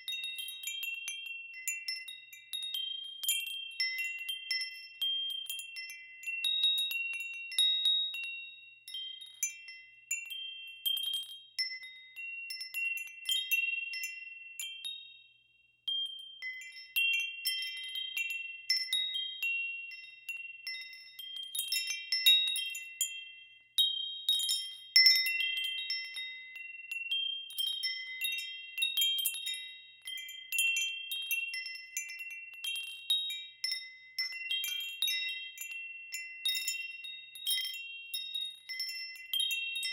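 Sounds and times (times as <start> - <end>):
wind chimes ringing: 0.0 - 15.2, 15.9 - 39.9.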